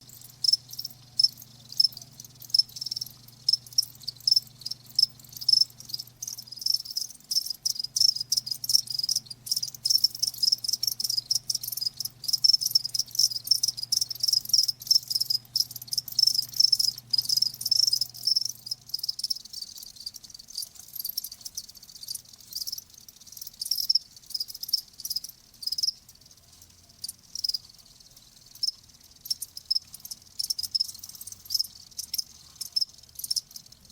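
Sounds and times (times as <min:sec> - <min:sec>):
crickets chirping: 0:00.0 - 0:33.9
faint low hum: 0:00.0 - 0:33.9.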